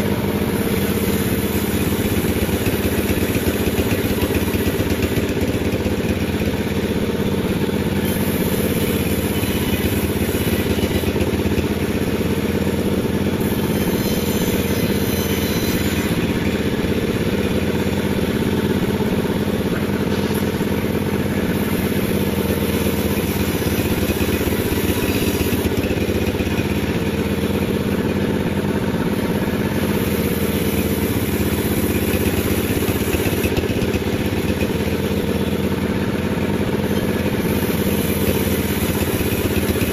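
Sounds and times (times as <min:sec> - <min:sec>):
log being sawn: 0:00.0 - 0:39.9
sawmill engine running: 0:00.0 - 0:39.9.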